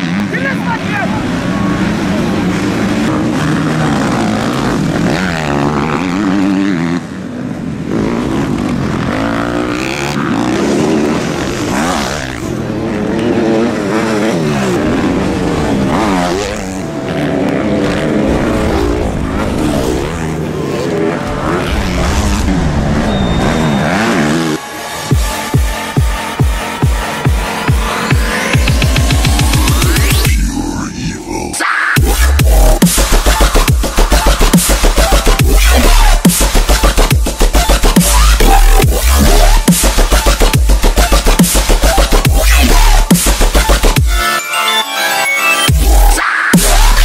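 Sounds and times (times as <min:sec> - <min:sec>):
dirt bike engines revving: 0:00.0 - 0:44.5, 0:45.5 - 0:47.0.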